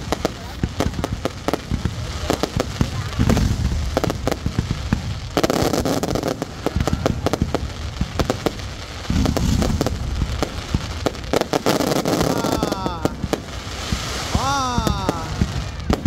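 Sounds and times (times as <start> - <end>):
crackling rumble: 0.0 - 16.0
fireworks bangs: 0.0 - 16.0.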